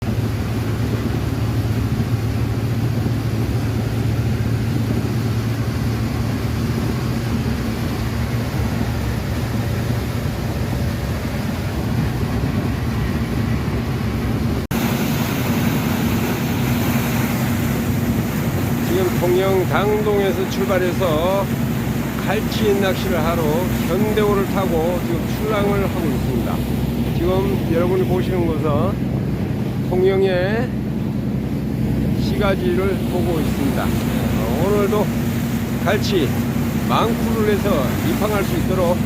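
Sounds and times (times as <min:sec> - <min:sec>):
boat engine droning: 0:00.0 - 0:39.0
water noise: 0:00.0 - 0:39.0
wind: 0:00.0 - 0:39.0.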